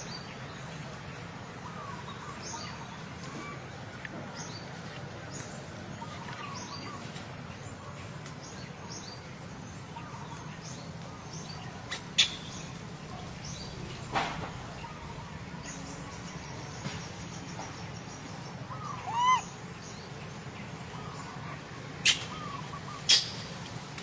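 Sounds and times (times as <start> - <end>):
low background noise: 0.0 - 24.0
small birds chirping: 4.3 - 24.0.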